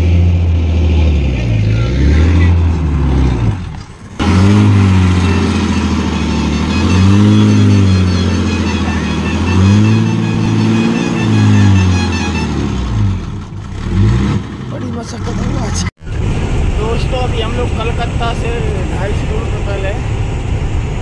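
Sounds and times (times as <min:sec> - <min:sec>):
truck diesel engine revving: 0:00.0 - 0:21.0.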